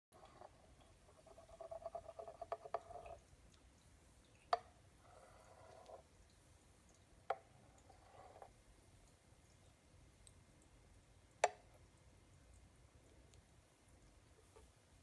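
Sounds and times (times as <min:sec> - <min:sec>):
milk pouring and gurgling: 0:00.2 - 0:15.0.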